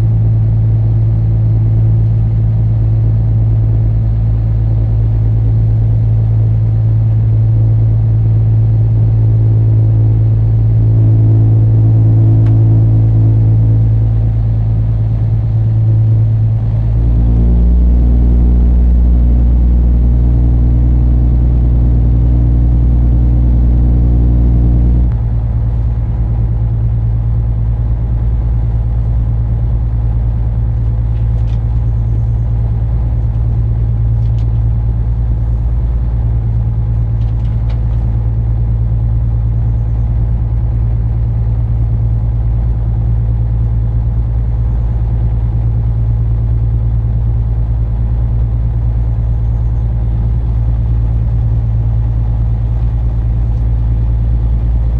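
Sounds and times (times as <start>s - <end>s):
barge diesel engine drone: 0.0s - 54.9s.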